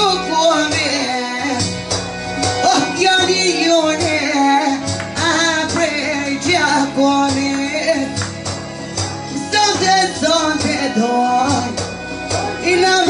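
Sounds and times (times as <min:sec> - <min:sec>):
woman singing into microphone: 0:00.0 - 0:01.8, 0:02.6 - 0:08.3, 0:09.3 - 0:13.0.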